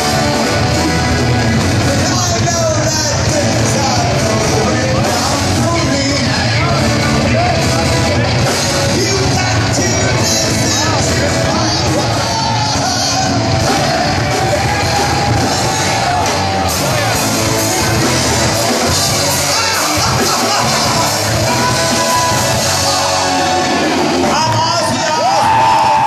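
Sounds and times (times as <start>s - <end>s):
live rock band playing: 0.0s - 26.0s
person yelling singing: 1.5s - 26.0s.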